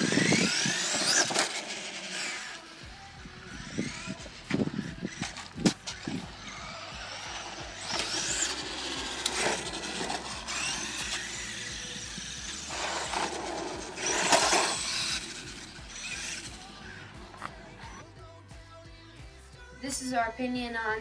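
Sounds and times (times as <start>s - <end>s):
rc truck electric motor whining: 0.0s - 18.0s.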